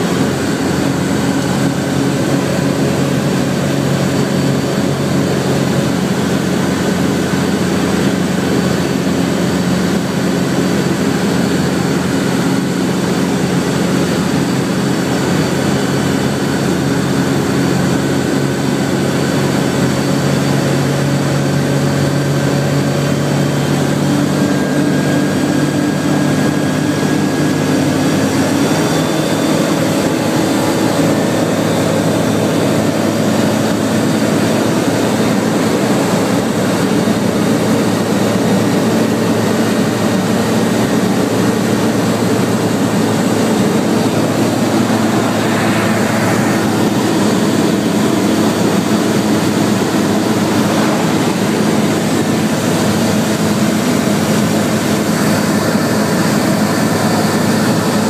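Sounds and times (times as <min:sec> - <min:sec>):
aircraft engine drone from cockpit: 0:00.0 - 0:58.0.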